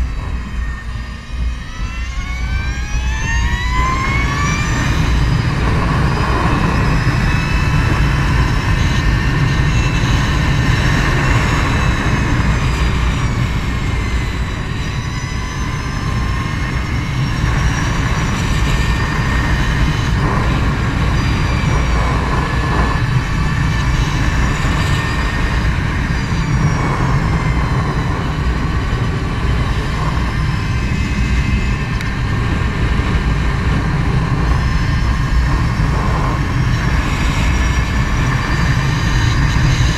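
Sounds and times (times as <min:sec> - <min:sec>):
electric motorcycle motor whine: 0:00.0 - 0:39.9
wind on microphone: 0:00.0 - 0:39.9.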